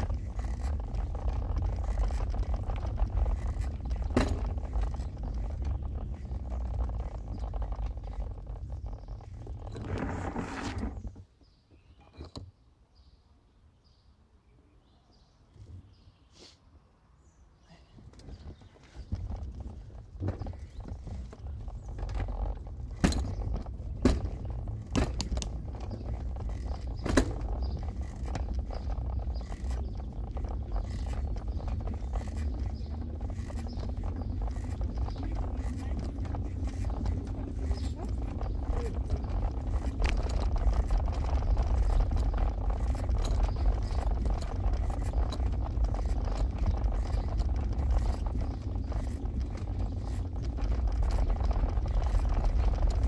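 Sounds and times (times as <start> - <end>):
car driving low rumble: 0.0 - 11.2, 18.3 - 53.0
sharp knocks and rattles: 0.0 - 12.5, 18.2 - 53.0.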